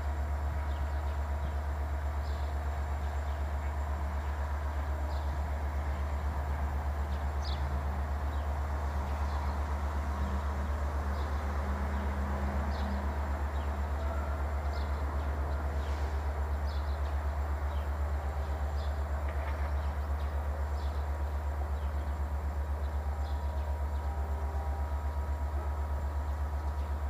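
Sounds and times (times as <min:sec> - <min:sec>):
diesel locomotive engine throbbing: 0:00.0 - 0:27.0.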